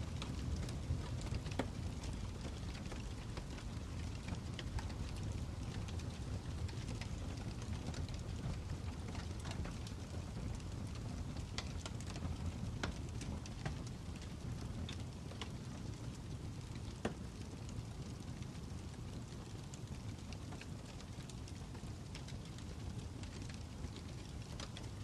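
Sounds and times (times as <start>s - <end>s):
fire crackling and popping: 0.0s - 25.0s.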